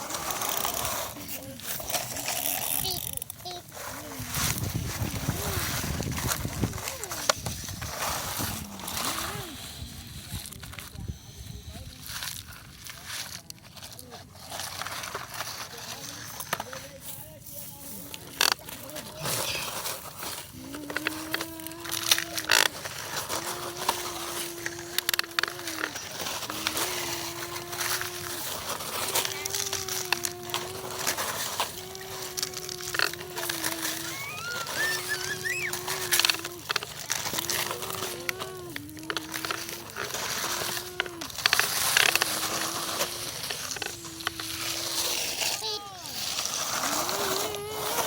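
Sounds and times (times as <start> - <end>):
small electric motor whining: 0.0 - 13.3, 18.4 - 48.0
clicks and crunching: 0.0 - 48.0.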